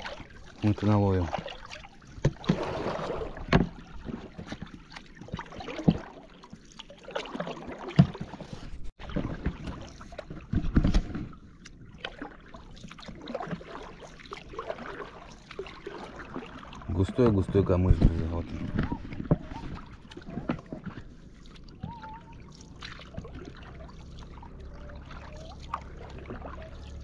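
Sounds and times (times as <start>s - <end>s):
oar strokes swishing through water: 0.0s - 27.0s
sharp knocks of oars: 1.3s - 27.0s.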